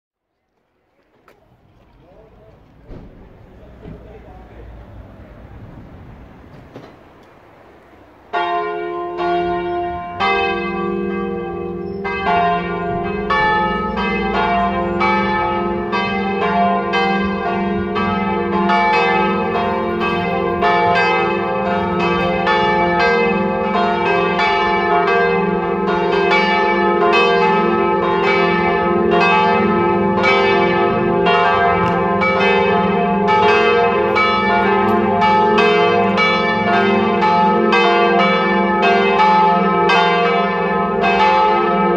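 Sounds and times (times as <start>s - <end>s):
church bells ringing: 8.3s - 41.9s.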